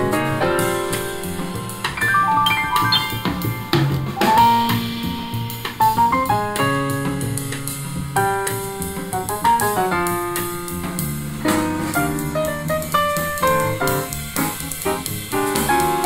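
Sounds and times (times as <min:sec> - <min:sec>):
piano jazz with drum kit: 0:00.0 - 0:16.0.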